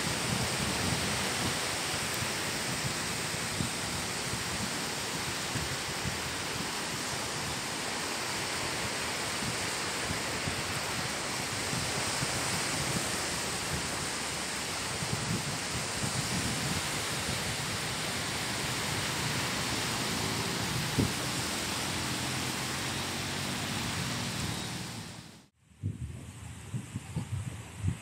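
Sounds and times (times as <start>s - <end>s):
small waves breaking on sand: 0.0s - 25.4s
wind rumbling on microphone: 0.0s - 28.0s.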